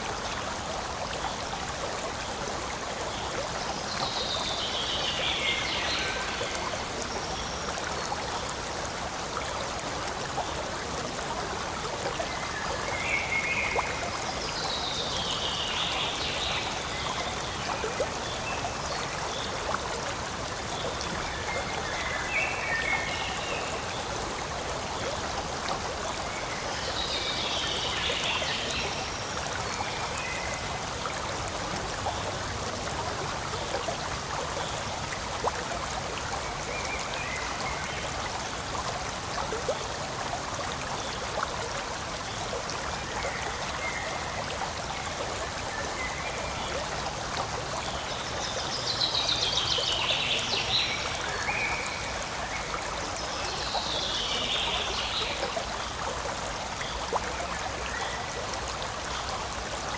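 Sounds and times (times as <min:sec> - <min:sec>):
stream flowing and trickling: 0:00.0 - 0:59.9.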